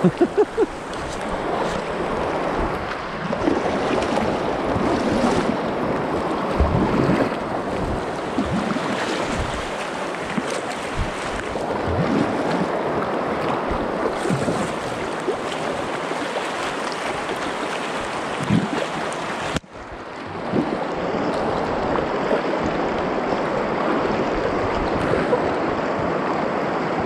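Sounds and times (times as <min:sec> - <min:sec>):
river rapids rushing and splashing: 0:00.0 - 0:27.0
wind buffeting microphone: 0:00.0 - 0:27.0.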